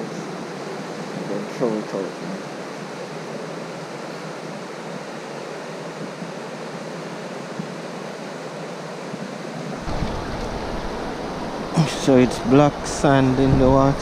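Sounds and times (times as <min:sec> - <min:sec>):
river current rushing: 0:00.0 - 0:14.0.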